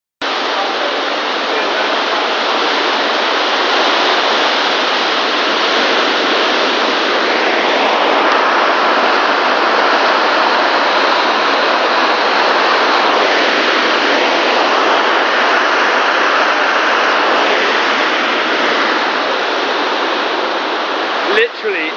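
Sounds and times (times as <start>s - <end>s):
heavy rain on a roof: 0.2s - 21.9s.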